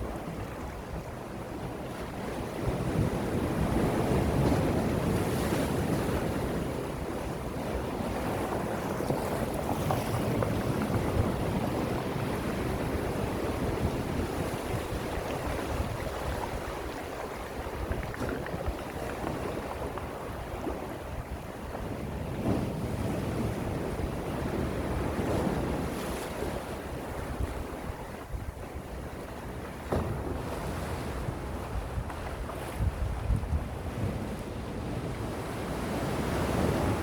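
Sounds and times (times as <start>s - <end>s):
sea waves washing ashore: 0.0s - 37.0s.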